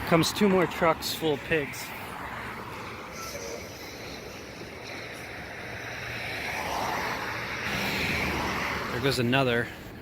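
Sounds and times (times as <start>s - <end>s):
truck passing: 0.0s - 10.0s.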